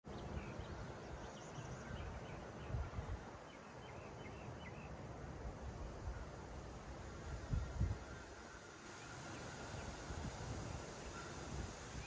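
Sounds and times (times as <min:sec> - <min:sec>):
high insect hum: 0:00.1 - 0:12.0.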